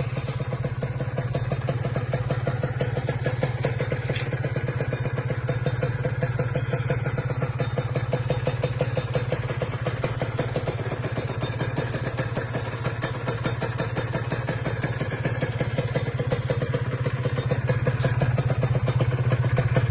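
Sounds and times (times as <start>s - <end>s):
two-stroke motorcycle engine idling: 0.0s - 19.9s.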